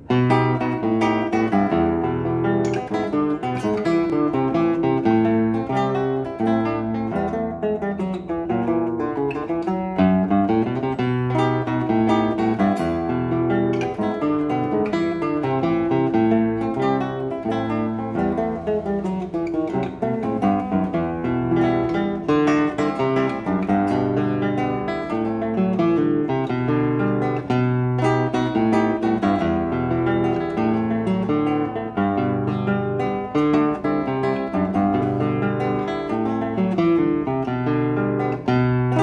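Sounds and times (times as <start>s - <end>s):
classical guitar fingerpicking: 0.0s - 39.0s.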